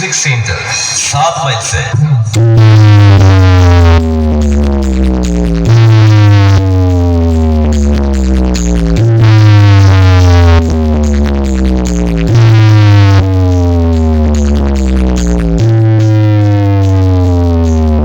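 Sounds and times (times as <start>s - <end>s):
electronic dance music: 0.0s - 18.0s.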